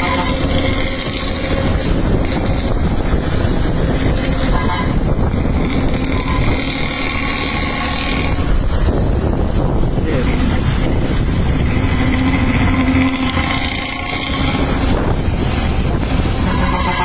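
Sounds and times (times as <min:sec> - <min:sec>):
bus engine and exhaust rumble: 0:00.0 - 0:17.0
road noise: 0:00.0 - 0:17.0
wind on microphone: 0:00.0 - 0:17.0.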